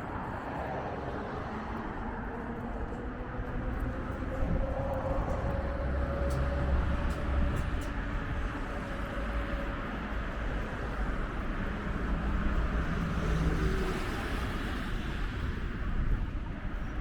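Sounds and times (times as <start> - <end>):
faint engine hums: 0.0 - 17.0
traffic rumble: 0.0 - 17.0.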